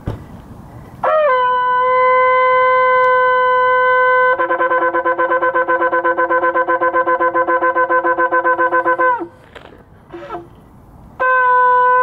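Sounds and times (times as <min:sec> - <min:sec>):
shofar high note: 0:01.0 - 0:09.4, 0:10.1 - 0:10.6, 0:11.2 - 0:12.0
lower-pitched shofar wavering: 0:01.0 - 0:09.5, 0:10.1 - 0:10.6, 0:11.2 - 0:12.0.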